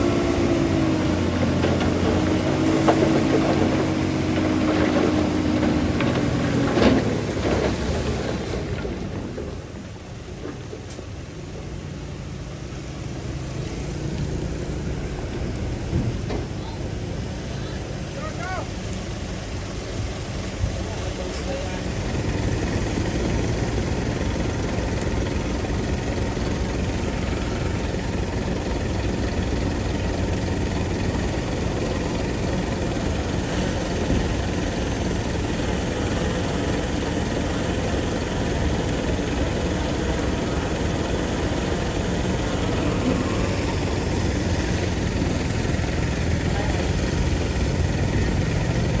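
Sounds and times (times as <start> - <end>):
heavy diesel engine droning: 0.0 - 49.0.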